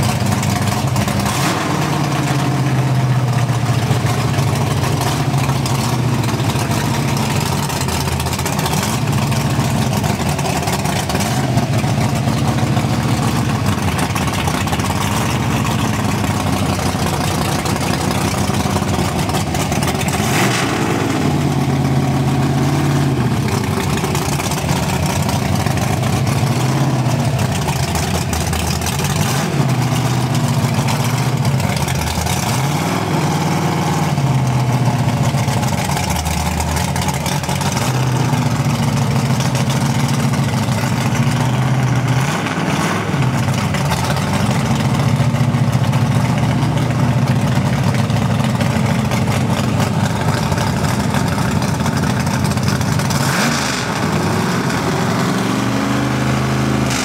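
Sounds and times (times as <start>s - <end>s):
car engine fast idle revving: 0.0s - 57.0s.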